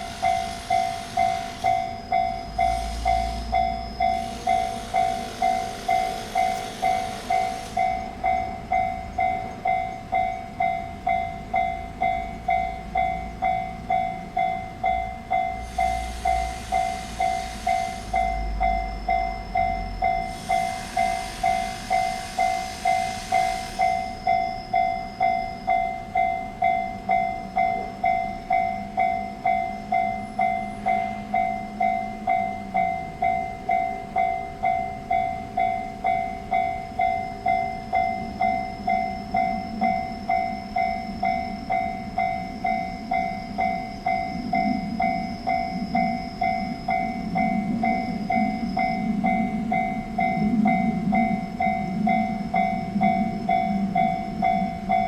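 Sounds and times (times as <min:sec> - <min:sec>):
level crossing bell ringing: 0:00.0 - 0:55.0
train wheels rushing on rails: 0:00.0 - 0:55.0.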